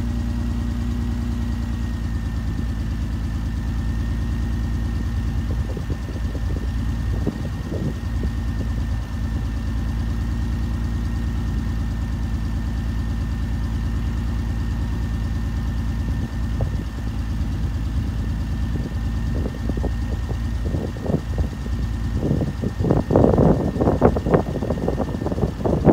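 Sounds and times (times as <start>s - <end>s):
car engine idling: 0.0s - 25.9s
exhaust sputters: 0.0s - 25.9s.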